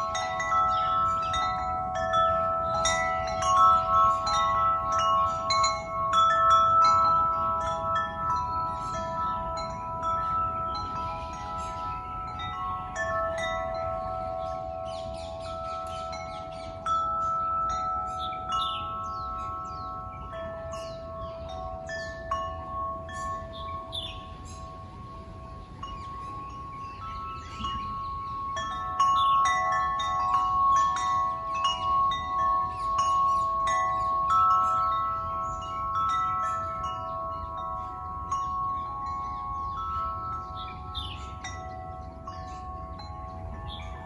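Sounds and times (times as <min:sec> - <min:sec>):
wind chimes ringing: 0:00.0 - 0:44.0.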